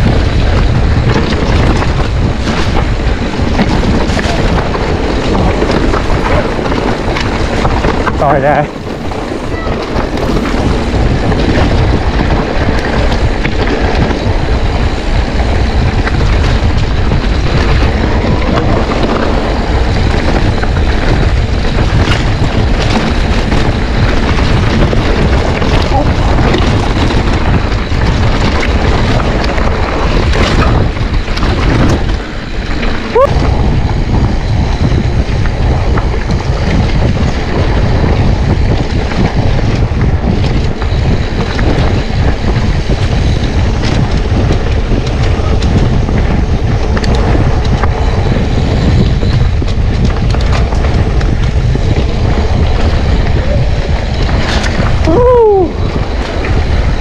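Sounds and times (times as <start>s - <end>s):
bike rattling over rough trail: 0.0s - 57.0s
wind rush on microphone: 0.0s - 57.0s.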